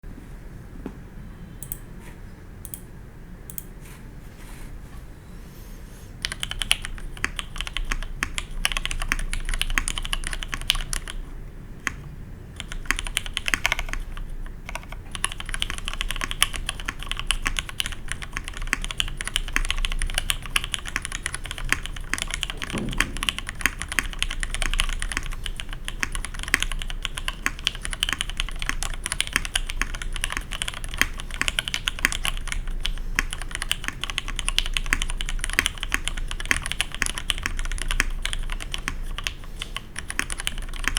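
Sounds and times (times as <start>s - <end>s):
fast mechanical keyboard typing: 6.2s - 40.9s.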